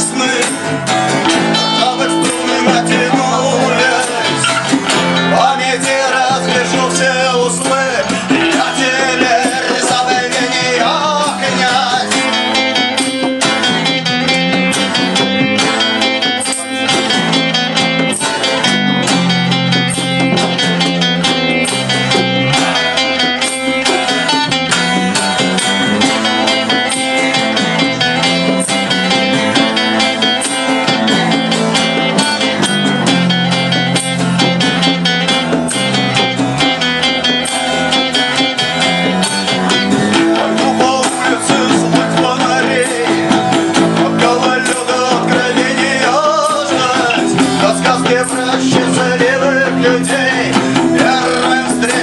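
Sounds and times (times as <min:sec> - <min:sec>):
live band music: 0:00.0 - 0:52.0.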